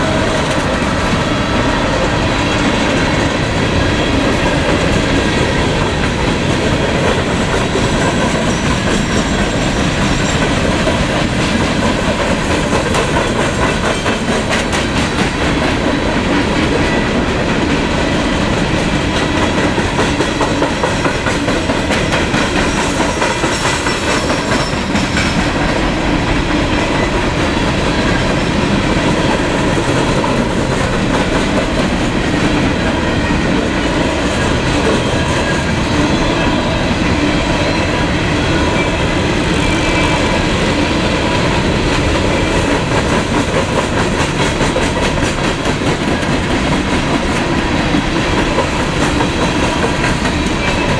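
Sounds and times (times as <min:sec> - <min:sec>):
freight train wheels rumbling on rail: 0:00.0 - 0:50.9.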